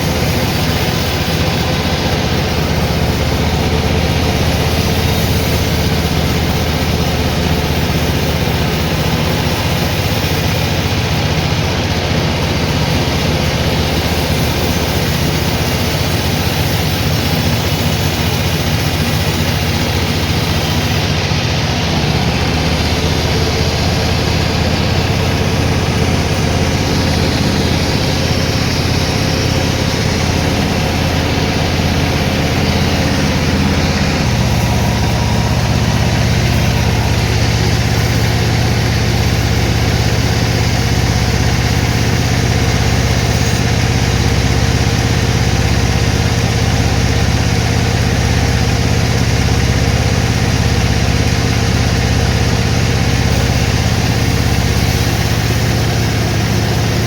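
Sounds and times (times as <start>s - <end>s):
sawmill machinery motor hum: 0.0s - 57.0s.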